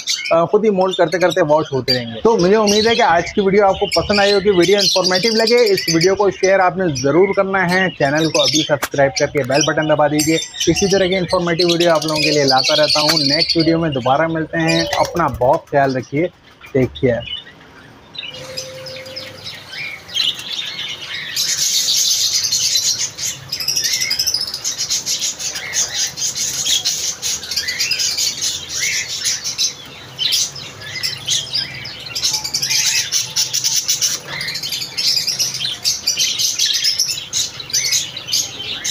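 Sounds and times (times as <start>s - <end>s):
cage birds chirping: 0.0s - 38.9s.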